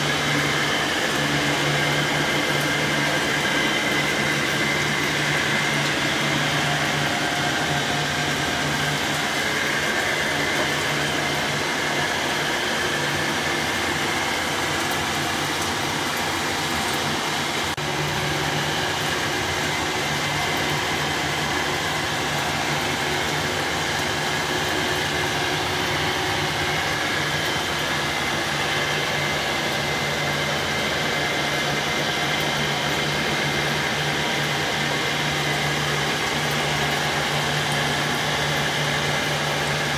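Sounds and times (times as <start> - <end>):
machine hum and hiss: 0.0 - 39.9.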